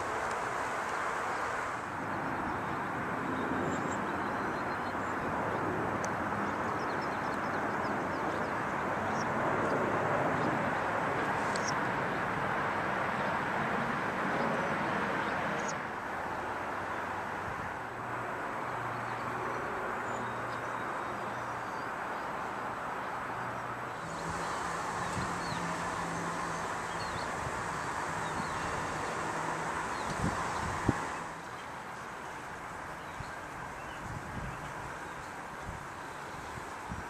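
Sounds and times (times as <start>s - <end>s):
outdoor background rush: 0.0s - 37.0s.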